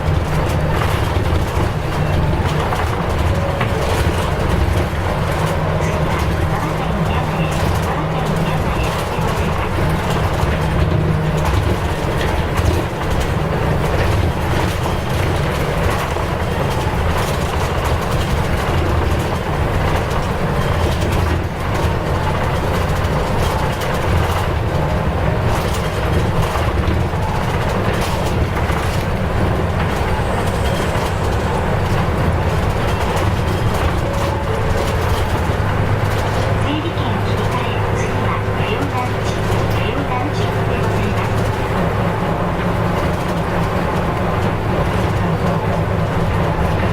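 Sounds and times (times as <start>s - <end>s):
bus body rattling and knocking: 0.0s - 46.9s
bus engine drone: 0.0s - 46.9s.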